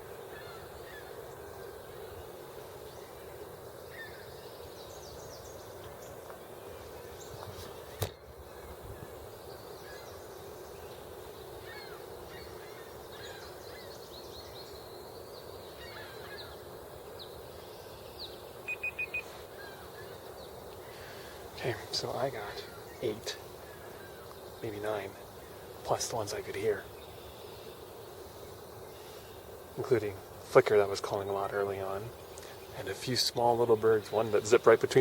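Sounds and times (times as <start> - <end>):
wild birds chirping: 0.0 - 35.0.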